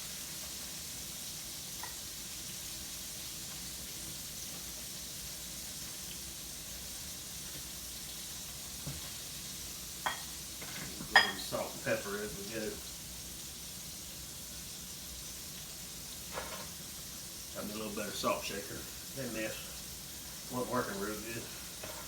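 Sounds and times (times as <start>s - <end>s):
oil sizzling in a skillet: 0.0s - 22.0s.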